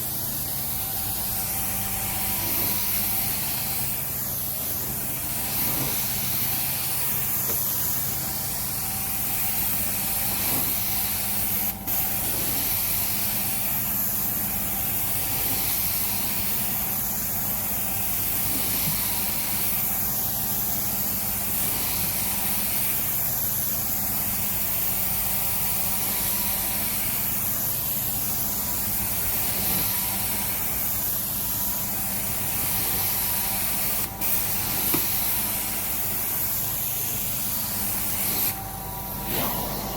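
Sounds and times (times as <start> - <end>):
carpet cleaning wand hissing: 0.0 - 39.9
cleaning machine hum: 0.0 - 39.9.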